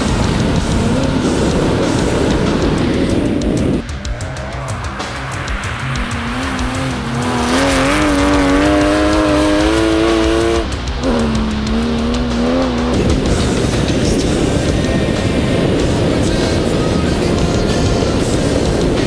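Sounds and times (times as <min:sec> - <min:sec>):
race car engine revving: 0:00.0 - 0:19.0
rough rushing sound: 0:00.0 - 0:19.0.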